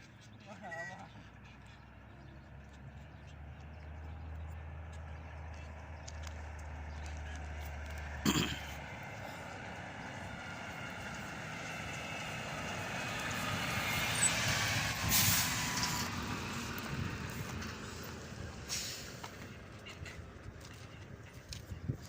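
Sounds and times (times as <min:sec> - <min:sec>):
motor vehicle passing by: 0:00.1 - 0:22.0.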